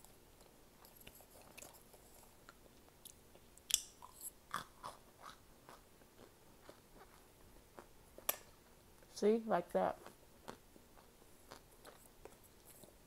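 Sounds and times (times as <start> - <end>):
chewing crunches: 0.4 - 8.4, 10.0 - 13.0.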